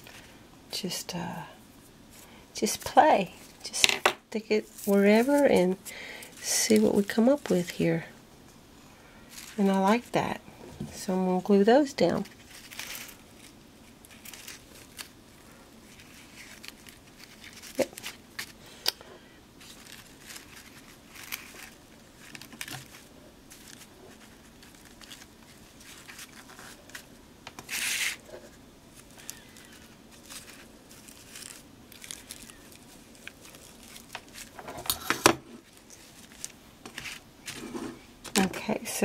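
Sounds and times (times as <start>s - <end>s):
paper and lace rustling: 4.5s - 7.8s, 9.2s - 10.4s, 11.0s - 18.6s, 19.6s - 38.8s.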